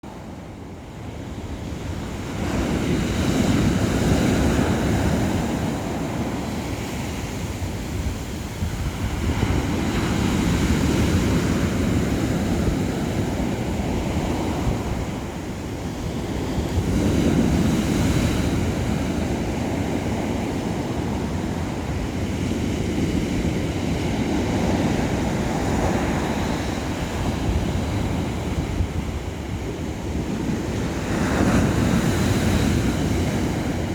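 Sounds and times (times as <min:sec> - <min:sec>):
sea waves washing ashore: 0:00.0 - 0:33.9
wind on microphone: 0:00.1 - 0:33.9.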